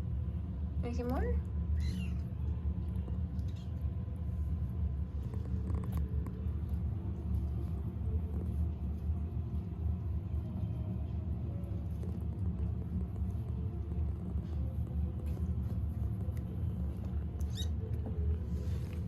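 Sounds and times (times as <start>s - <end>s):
kitten purring: 1.8s - 19.0s.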